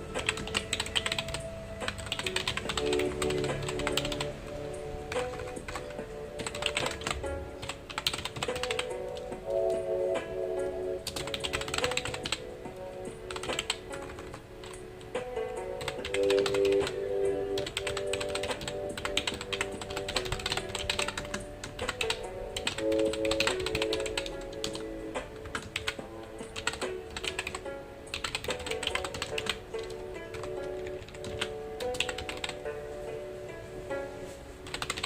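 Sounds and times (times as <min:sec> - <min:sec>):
soft background music: 0:00.0 - 0:35.0.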